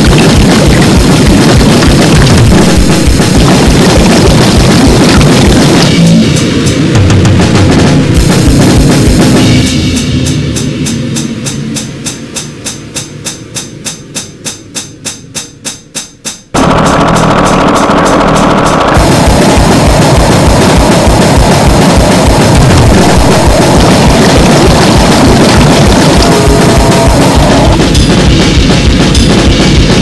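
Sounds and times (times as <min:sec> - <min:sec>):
pulse of drum hits: 0:00.0 - 0:11.7, 0:16.6 - 0:30.0
distorted drums and noise: 0:00.0 - 0:30.0.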